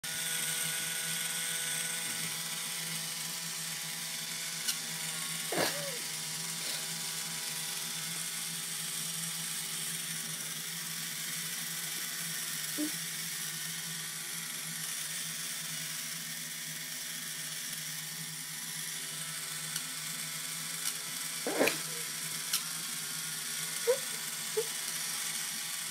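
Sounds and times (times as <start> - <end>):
electric foot file motor hum: 0.1 - 25.9.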